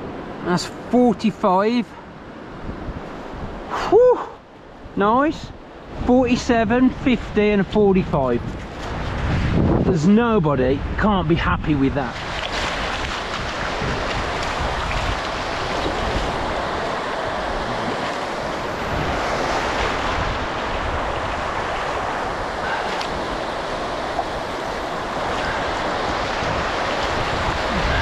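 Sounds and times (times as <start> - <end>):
shallow surf washing on sand: 0.0 - 28.0
wind buffeting microphone: 2.1 - 3.7, 4.7 - 28.0.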